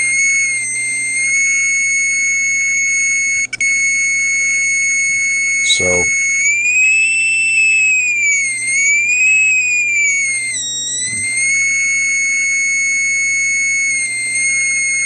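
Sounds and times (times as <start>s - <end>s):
multimeter high tone: 0.0s - 15.0s.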